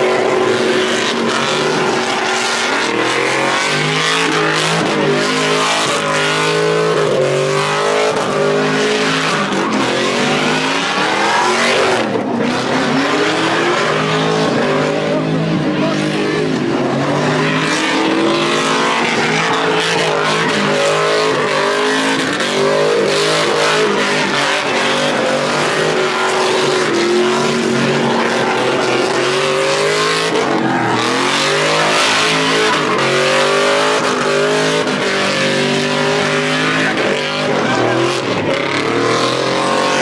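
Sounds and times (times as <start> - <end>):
truck engines revving: 0.0 - 40.0.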